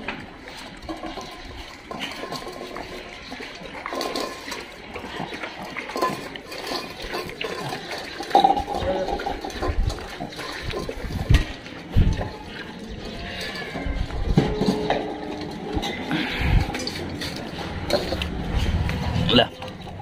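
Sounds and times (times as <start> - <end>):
dogs eating and lapping: 0.0 - 20.0
steel bowls clinking: 0.0 - 20.0.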